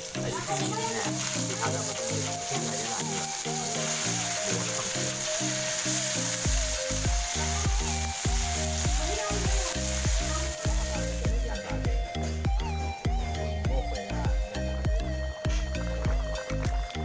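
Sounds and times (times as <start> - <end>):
background music with bass beat: 0.0 - 17.0
food sizzling in a pan: 0.0 - 17.0.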